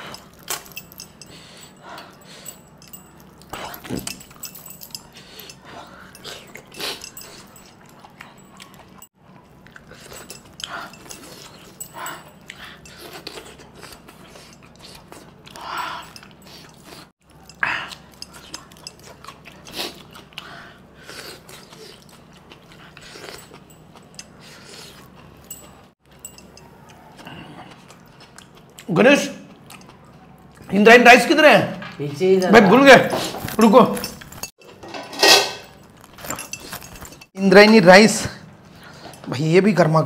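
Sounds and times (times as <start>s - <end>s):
man chewing meat: 0.0s - 30.7s, 35.7s - 37.4s.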